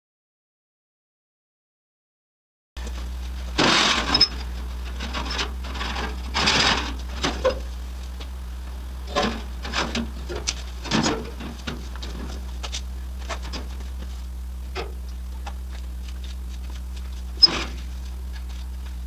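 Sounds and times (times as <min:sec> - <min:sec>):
steady low hum: 0:02.8 - 0:19.0.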